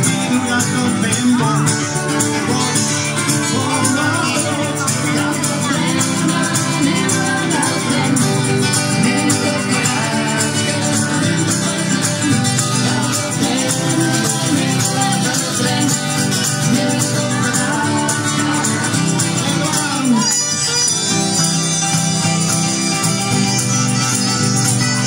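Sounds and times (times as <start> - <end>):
lively beat: 0.0 - 25.0
strummed acoustic guitars: 0.0 - 25.0.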